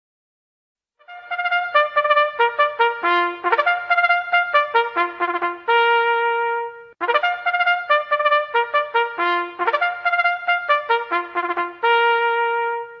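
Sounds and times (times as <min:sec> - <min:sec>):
brass melody background music: 0:01.0 - 0:13.0.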